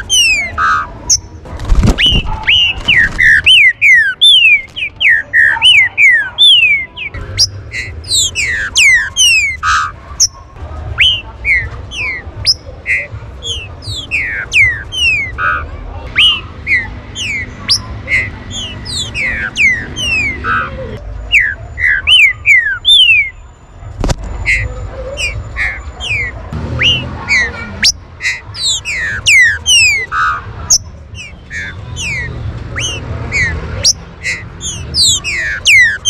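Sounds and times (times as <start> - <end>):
birds whistling: 0.0 - 36.0.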